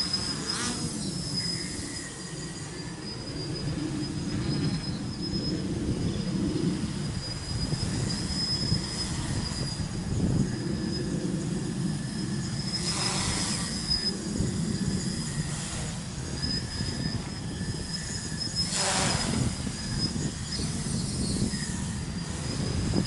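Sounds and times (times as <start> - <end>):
drone motors buzzing: 0.0 - 23.0.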